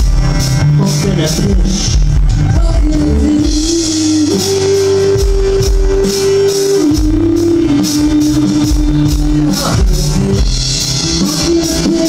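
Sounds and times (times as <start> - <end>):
bass line: 0.0 - 12.0
live band music: 0.0 - 12.0.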